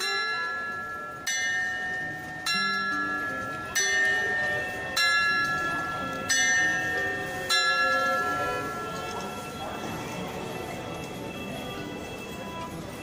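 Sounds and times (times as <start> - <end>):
clock bell striking: 0.0 - 11.2.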